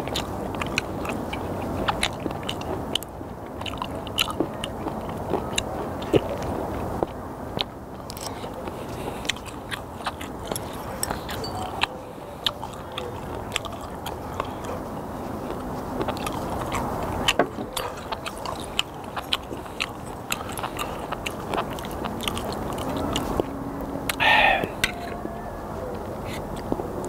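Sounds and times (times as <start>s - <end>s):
chewing with mouth clicks and crunches: 0.0s - 27.0s.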